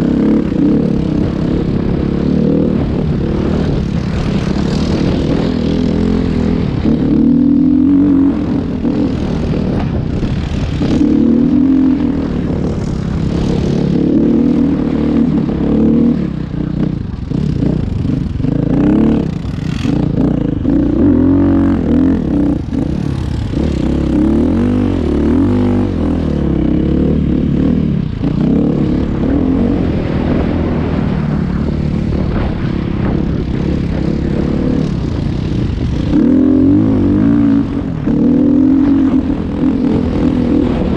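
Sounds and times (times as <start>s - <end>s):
vehicle engine revving: 0.0s - 40.9s.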